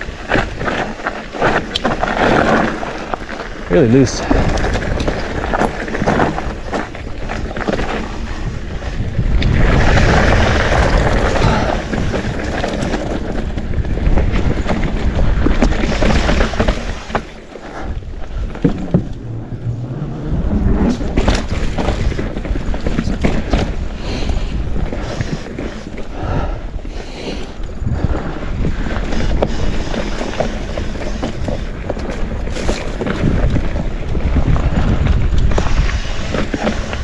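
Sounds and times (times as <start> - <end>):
bike clattering over bumps: 0.0 - 37.0
tyres crunching over loose dirt: 0.0 - 37.0
wind buffeting the microphone: 0.0 - 37.0.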